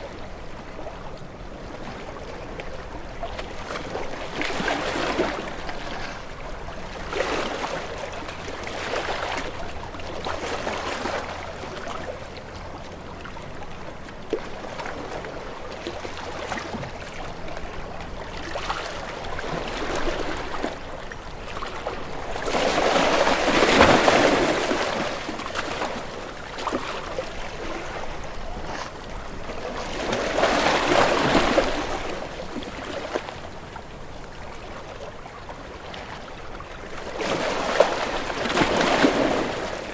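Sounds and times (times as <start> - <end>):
waves breaking: 0.0 - 39.9
waves washing in and out: 0.0 - 39.9.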